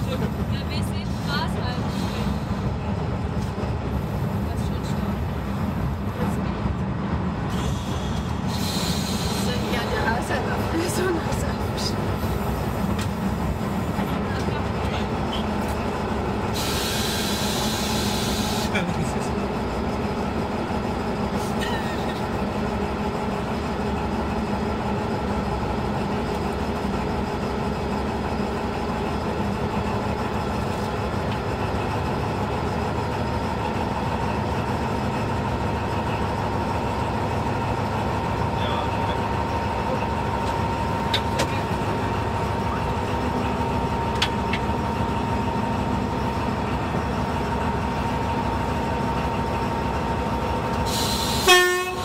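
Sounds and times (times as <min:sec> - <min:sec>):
diesel locomotive engine running: 0:00.0 - 0:52.0.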